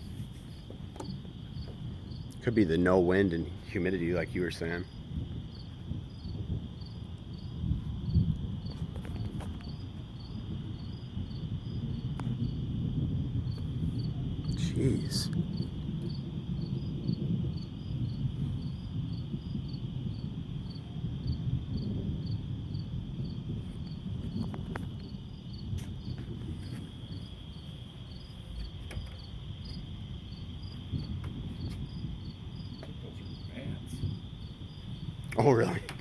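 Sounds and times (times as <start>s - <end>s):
crickets chirping: 0.0s - 36.0s
high insect trill: 0.0s - 36.0s
low rumbling noise: 0.0s - 36.0s.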